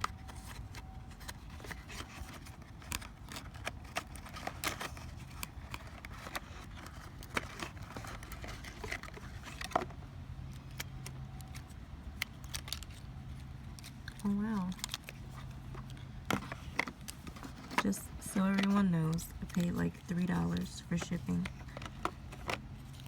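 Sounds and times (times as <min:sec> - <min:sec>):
cardboard packaging clicks and rustles: 0:00.0 - 0:23.0.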